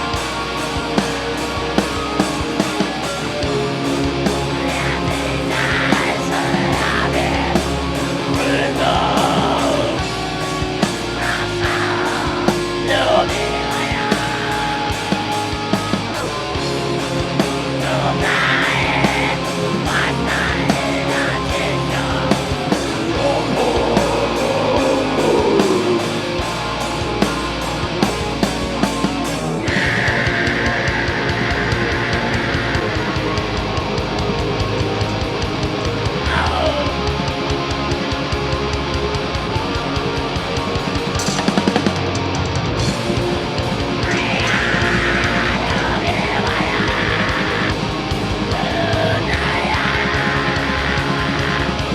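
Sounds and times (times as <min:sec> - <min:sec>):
bass guitar: 0:00.0 - 0:51.9
distorted electric guitars: 0:00.0 - 0:51.9
drum kit: 0:00.0 - 0:51.9.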